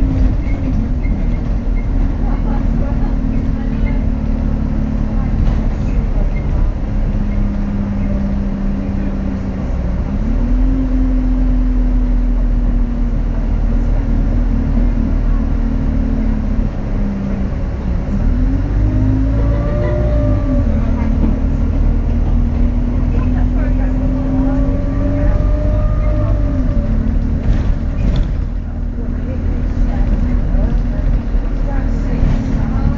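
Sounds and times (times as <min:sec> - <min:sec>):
bus engine rumbling: 0:00.0 - 0:32.9.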